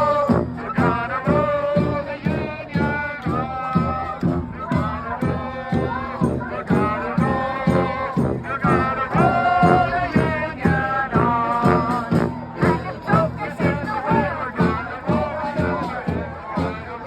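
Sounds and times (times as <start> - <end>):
brass band playing upbeat tune: 0.0 - 17.0
steady drum beat: 0.0 - 17.0.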